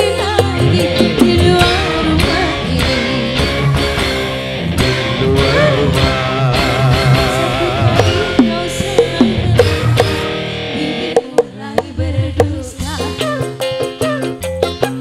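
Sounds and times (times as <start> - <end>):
steady drum beat: 0.0 - 10.4, 11.1 - 15.0
live band instrumental music: 0.0 - 15.0.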